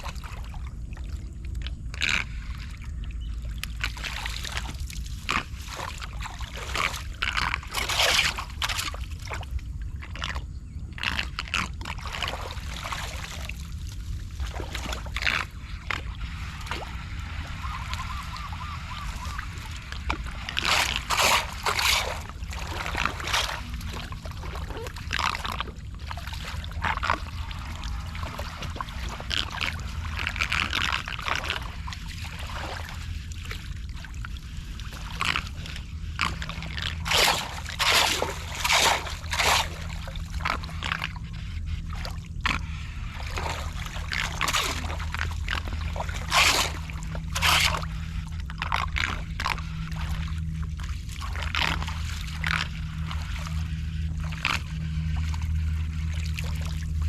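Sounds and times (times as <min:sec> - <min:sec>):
rumble of moving water: 0:00.0 - 0:57.0
floodwater splashing: 0:02.0 - 0:10.4, 0:11.0 - 0:57.0.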